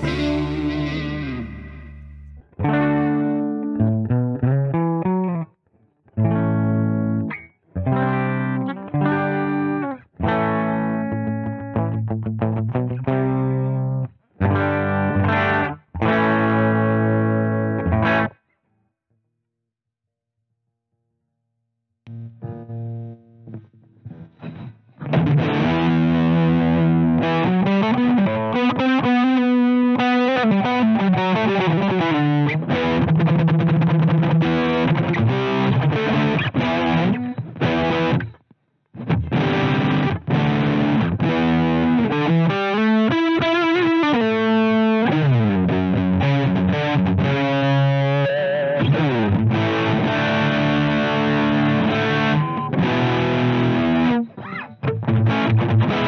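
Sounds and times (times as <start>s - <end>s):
distorted electric guitar riffs: 0.0s - 5.5s, 6.1s - 18.4s, 22.1s - 56.0s.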